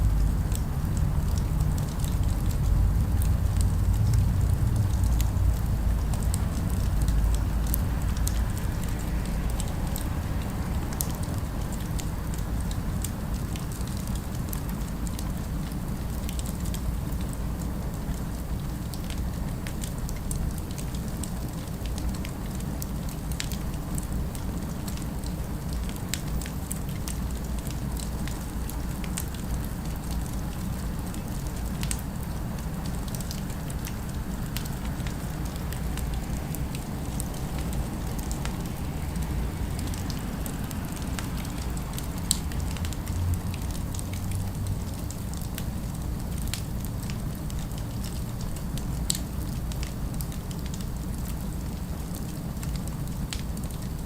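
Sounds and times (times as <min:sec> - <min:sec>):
distant city ambience: 0:00.0 - 0:54.0
fire crackling and popping: 0:00.0 - 0:54.0.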